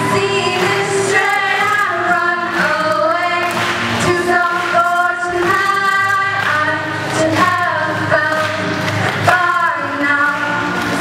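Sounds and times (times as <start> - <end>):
acoustic guitar: 0.0 - 11.0
young female voices singing: 0.0 - 11.0.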